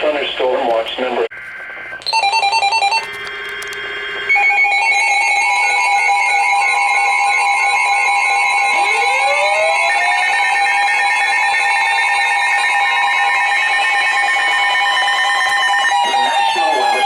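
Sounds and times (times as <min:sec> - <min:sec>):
loud steady alarm tone: 0:01.3 - 0:17.0.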